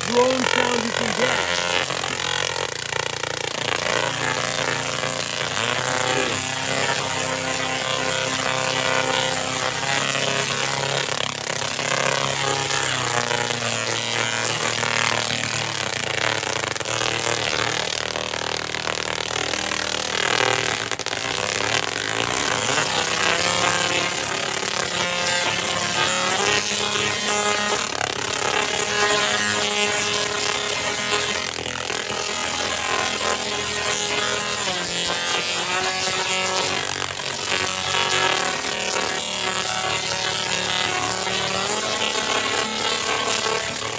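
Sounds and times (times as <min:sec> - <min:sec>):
spark crackle: 0:00.0 - 0:43.7
tesla coil buzzing drone: 0:00.0 - 0:43.9.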